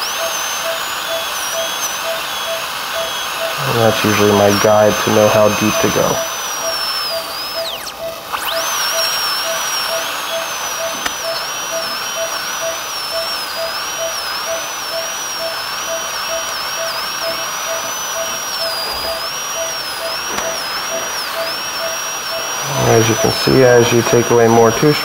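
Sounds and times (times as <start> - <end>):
dental drill whining: 0.0 - 25.0
short low beeps: 0.0 - 25.0.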